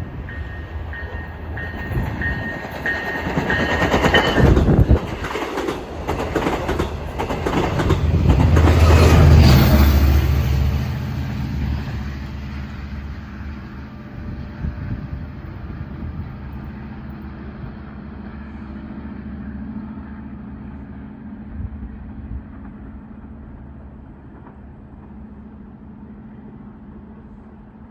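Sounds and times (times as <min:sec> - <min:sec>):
train rumble: 0:00.0 - 0:27.9.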